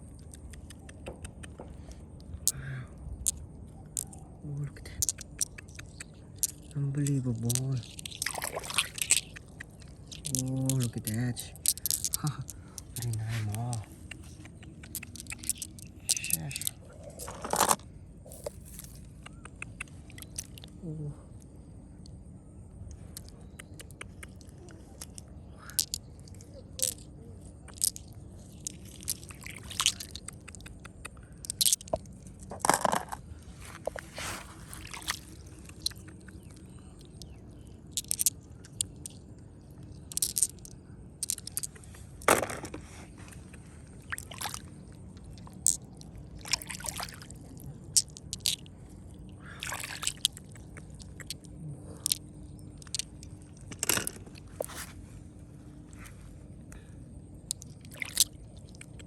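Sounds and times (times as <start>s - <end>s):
low steady background: 0.0s - 59.0s
stones clicking and crunching: 0.1s - 4.2s, 4.9s - 20.8s, 23.2s - 48.8s, 49.6s - 55.3s, 56.7s - 59.0s.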